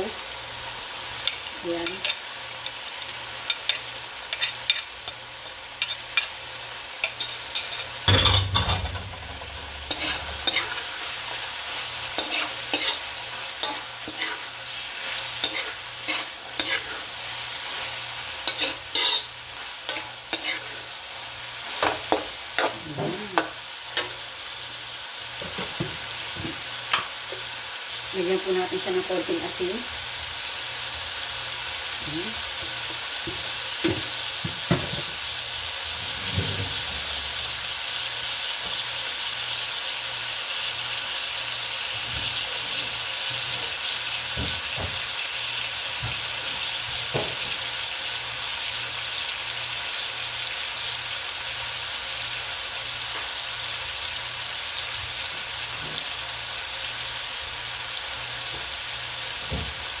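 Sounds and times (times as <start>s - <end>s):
food sizzling in oil: 0.0s - 60.0s.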